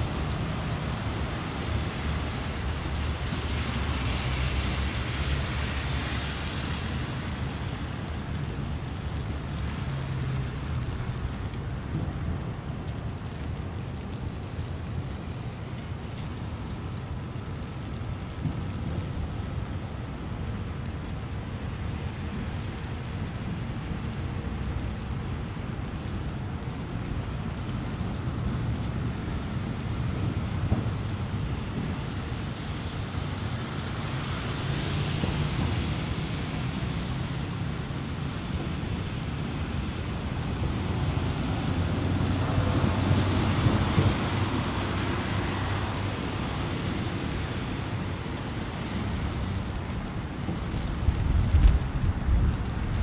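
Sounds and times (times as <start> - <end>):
traffic rumble: 0.0 - 53.0
vehicles passing hiss: 0.0 - 53.0.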